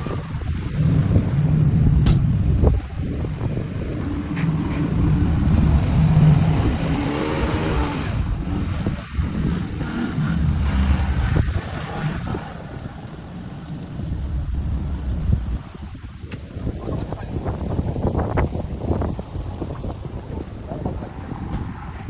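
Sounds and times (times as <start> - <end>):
car engine running: 0.0 - 21.7.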